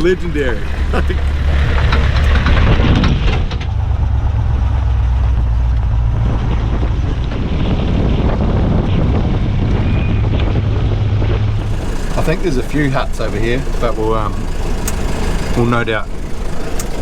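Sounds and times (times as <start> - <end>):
engine and drivetrain drone: 0.0 - 17.0
road and wind noise: 0.0 - 17.0.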